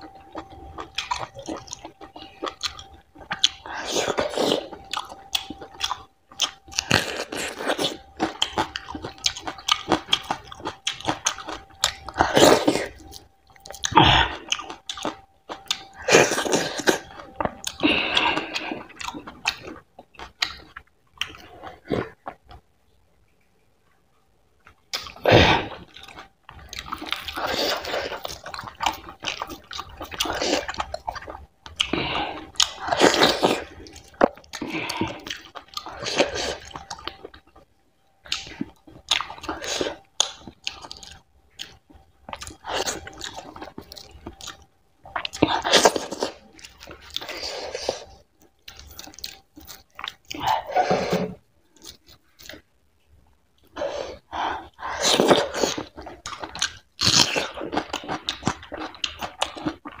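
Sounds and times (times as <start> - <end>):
wet chewing: 0.0 - 22.6, 24.6 - 52.7, 53.6 - 60.0.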